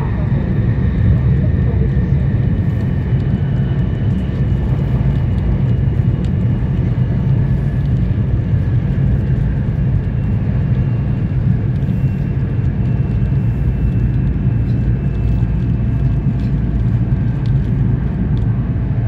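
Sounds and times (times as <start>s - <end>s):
faint steady whines: 0.0s - 19.0s
train interior low rumble: 0.0s - 19.0s.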